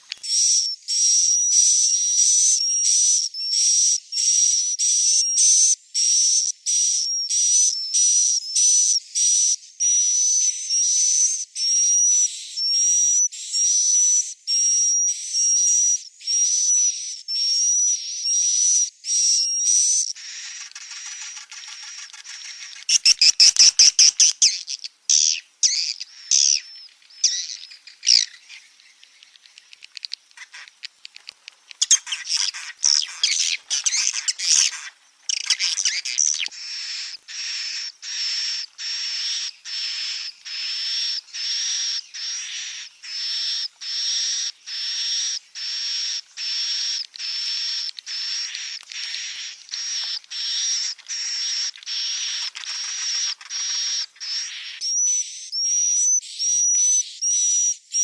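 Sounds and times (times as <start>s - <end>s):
recorded swiftlet calls: 0.0s - 58.0s.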